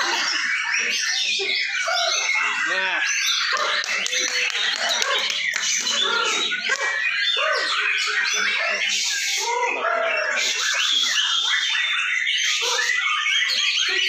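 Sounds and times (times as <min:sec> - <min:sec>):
many songbirds singing: 0:00.0 - 0:14.0.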